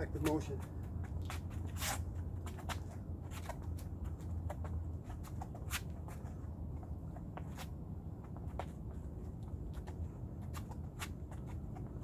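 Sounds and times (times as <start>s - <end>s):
sneakers scuffing on concrete: 0.0s - 12.0s
steady low hum: 0.0s - 12.0s.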